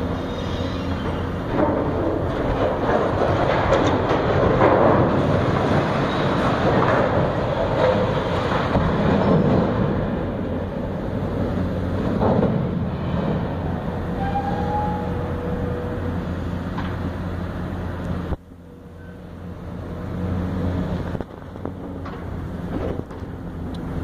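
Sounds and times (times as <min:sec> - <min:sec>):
demolition machinery drone: 0:00.0 - 0:24.0.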